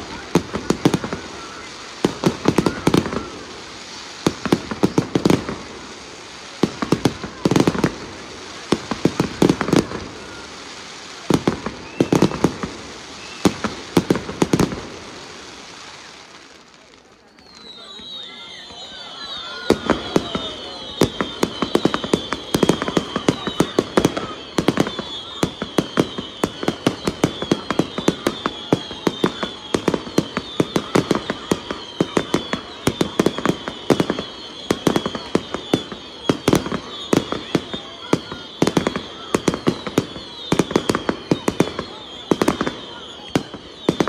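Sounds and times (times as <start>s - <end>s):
fireworks bangs and pops: 0.0s - 44.0s.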